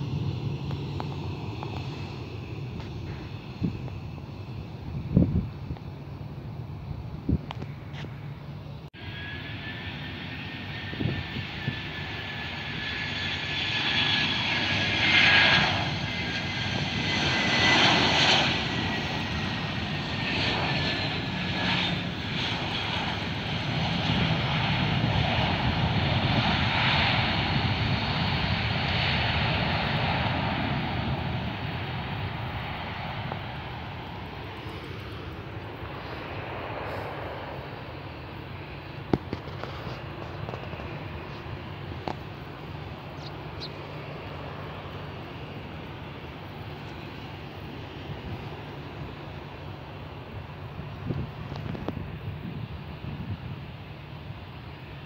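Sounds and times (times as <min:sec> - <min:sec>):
jet engine rumble: 0:00.0 - 0:55.0
jet engine whine: 0:00.0 - 0:55.0.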